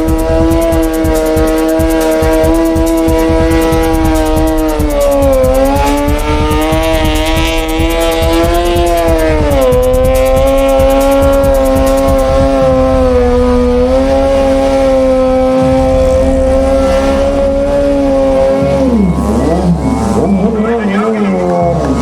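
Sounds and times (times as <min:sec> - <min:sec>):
motorcycle engine at high revs: 0:00.0 - 0:22.0.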